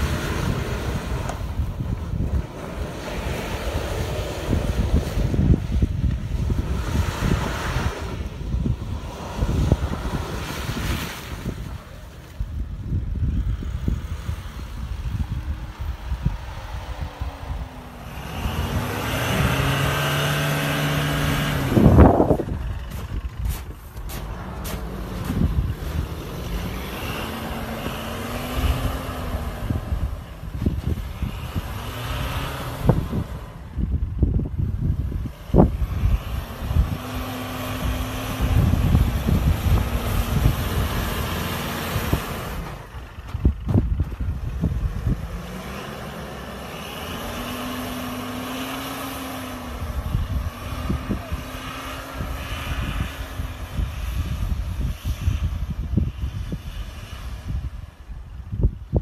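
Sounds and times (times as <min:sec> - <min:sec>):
diesel engine revving hard: 0:00.0 - 0:58.2
truck engine rumble: 0:00.0 - 0:59.0
tyres in snow: 0:00.0 - 0:59.0
wind on microphone: 0:00.0 - 0:59.0.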